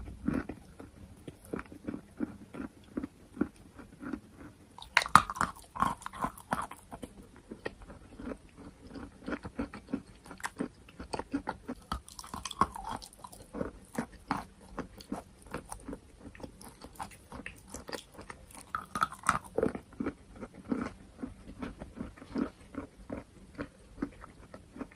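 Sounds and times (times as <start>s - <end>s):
chewing and crunching chalk: 0.0s - 24.9s.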